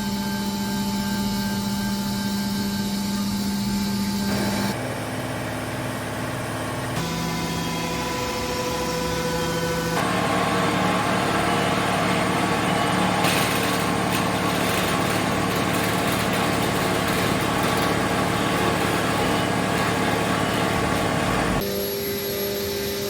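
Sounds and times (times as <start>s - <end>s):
milling machine droning: 0.0s - 23.0s.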